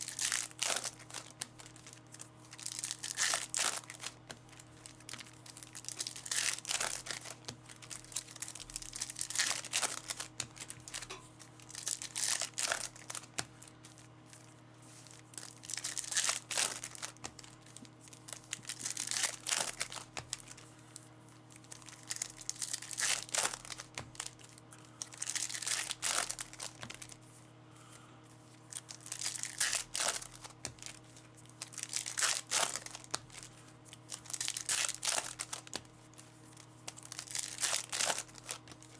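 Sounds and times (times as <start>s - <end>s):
wrappers tearing and crinkling: 0.0s - 27.2s, 28.5s - 38.9s
steady low hum: 0.0s - 38.9s.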